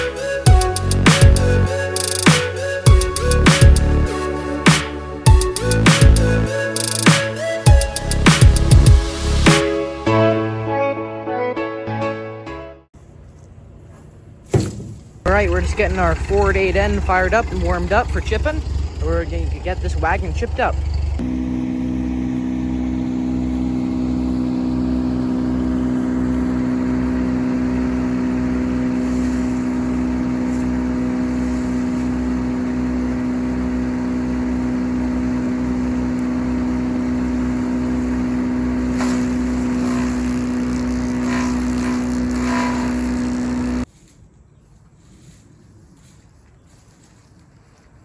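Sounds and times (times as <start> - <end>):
tractor engine running: 0.0 - 9.6, 13.0 - 43.9.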